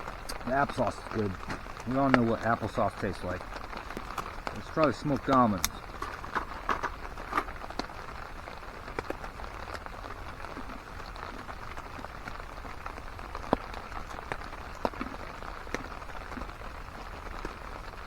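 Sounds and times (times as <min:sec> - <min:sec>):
drips ticking: 0:00.0 - 0:17.7
steady rain: 0:00.0 - 0:18.0.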